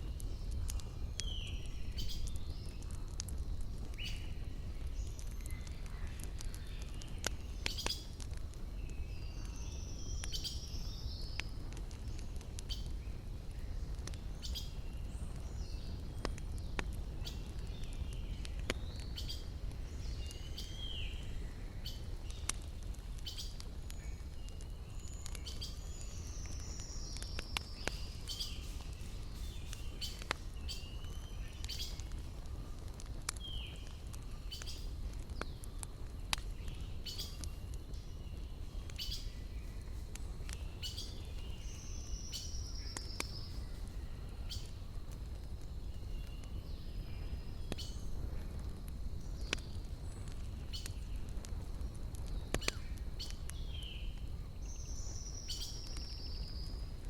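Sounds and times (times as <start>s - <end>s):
small birds chirping: 0.0s - 57.0s
wood fire crackling and popping: 0.0s - 57.0s.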